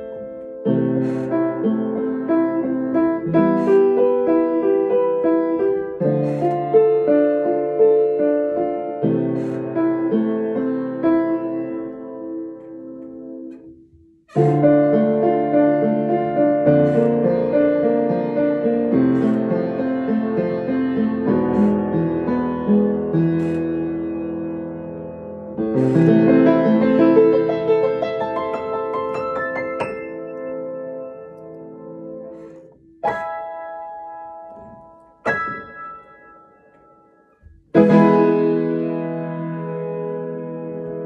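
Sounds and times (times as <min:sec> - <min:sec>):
piano playing slow chords: 0:00.0 - 0:41.0.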